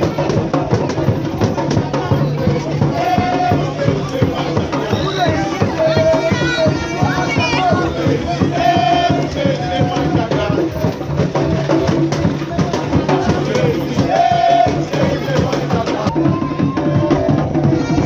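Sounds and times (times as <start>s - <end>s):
fast carnival drums and percussion: 0.0s - 18.0s
voices chanting: 0.0s - 18.0s.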